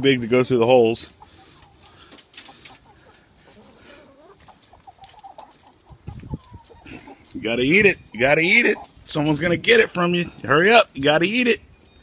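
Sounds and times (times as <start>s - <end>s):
hens clucking: 0.0s - 11.4s.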